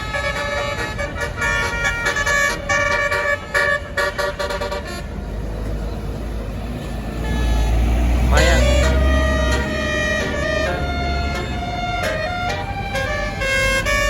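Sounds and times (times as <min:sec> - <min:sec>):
bus horn playing a tune: 0:00.0 - 0:05.7, 0:07.1 - 0:14.0
bus engine rumble: 0:00.0 - 0:14.0.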